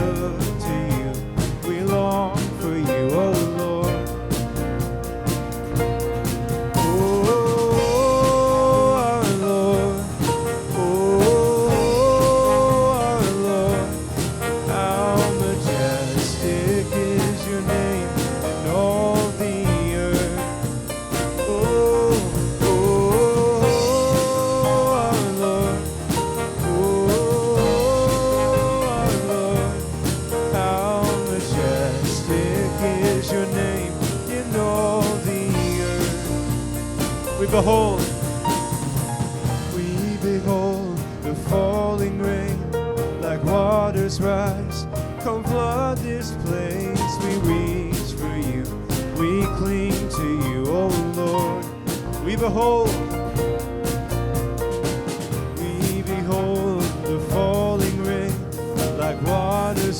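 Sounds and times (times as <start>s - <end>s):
bass: 0.0s - 59.9s
steady drum beat: 0.0s - 59.9s.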